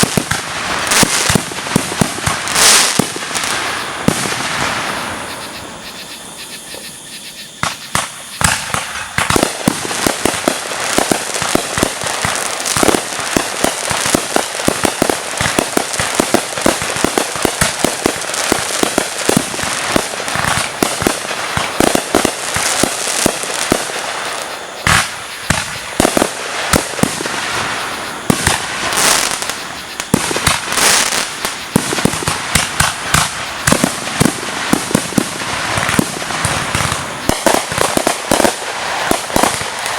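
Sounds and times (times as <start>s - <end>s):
loud fireworks booms: 0.0s - 6.8s, 7.6s - 39.9s
fireworks bangs and crackling: 0.0s - 39.9s.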